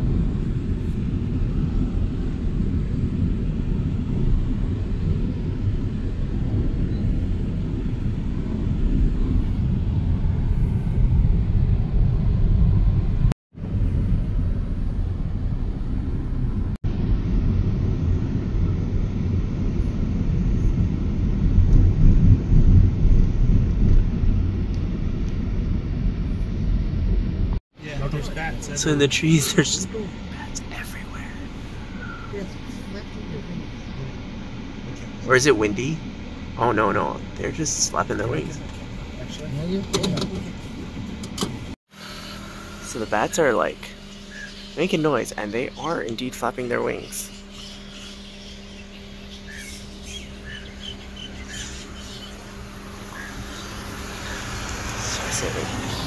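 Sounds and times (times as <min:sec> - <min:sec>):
vehicle road and wind rumble: 0:00.0 - 0:56.0.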